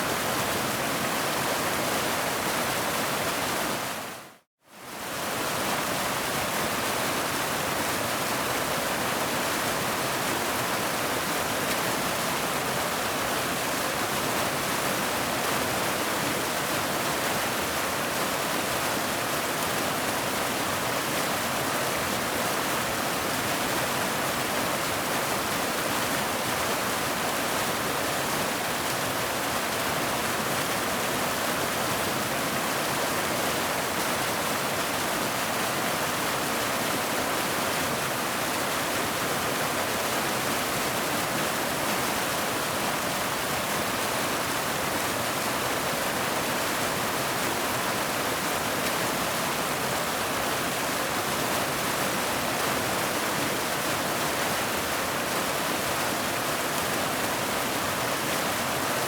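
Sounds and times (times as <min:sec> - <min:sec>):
waterfall roaring: 0:08.1 - 0:59.0.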